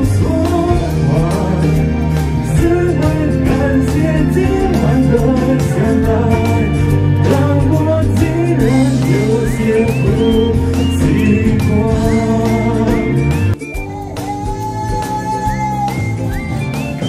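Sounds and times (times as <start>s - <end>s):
guitar: 0.0s - 17.0s
person singing: 0.0s - 17.0s
steady bass line: 0.0s - 17.0s.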